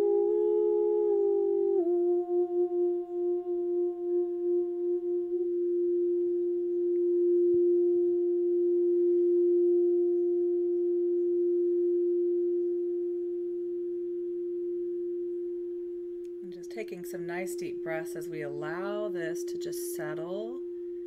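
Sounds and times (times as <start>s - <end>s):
singing bowl tone: 0.0s - 21.0s.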